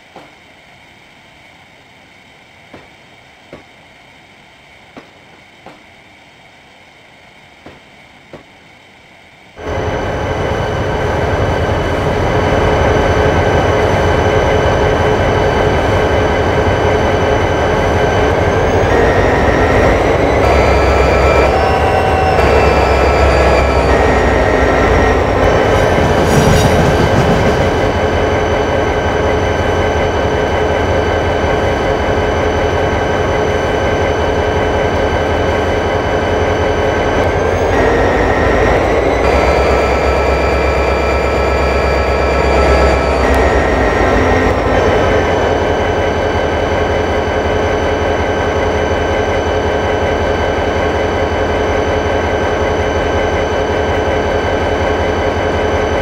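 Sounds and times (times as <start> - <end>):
train rumble: 0.0 - 56.0
train whine: 0.0 - 56.0.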